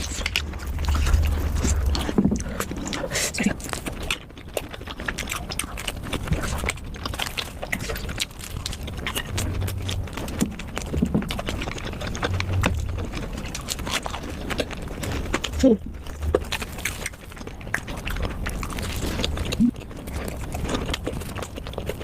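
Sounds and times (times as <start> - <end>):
mouth clicks and smacks: 0.0 - 22.0
person chewing noodles: 0.0 - 22.0.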